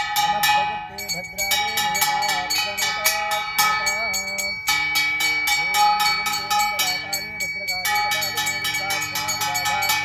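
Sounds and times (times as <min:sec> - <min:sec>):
ritual bells struck rapidly: 0:00.0 - 0:10.0
wavering melody: 0:00.0 - 0:10.0.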